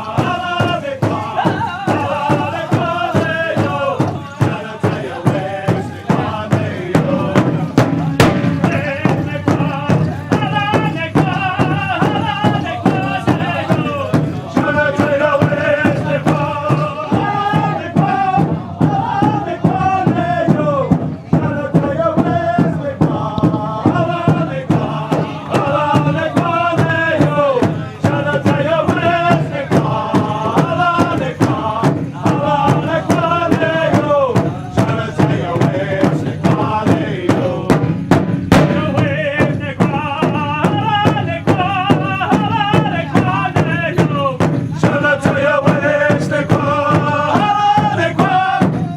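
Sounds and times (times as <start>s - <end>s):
steady drumbeat: 0.0s - 48.9s
voices chanting in unison: 0.0s - 48.9s.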